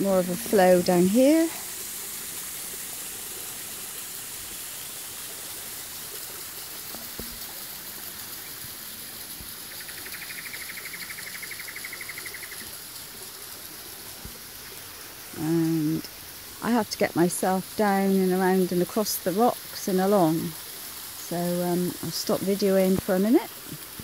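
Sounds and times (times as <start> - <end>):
creek flowing over rocks: 0.0 - 24.0.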